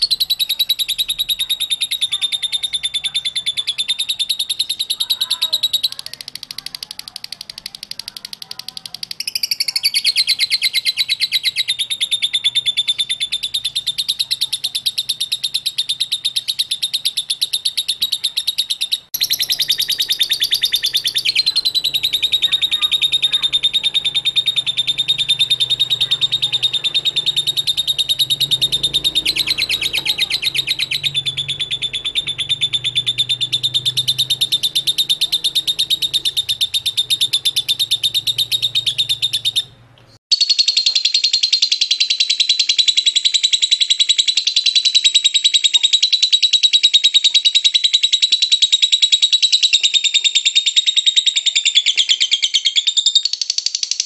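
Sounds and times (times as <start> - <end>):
bird chattering trill: 0.0 - 54.0.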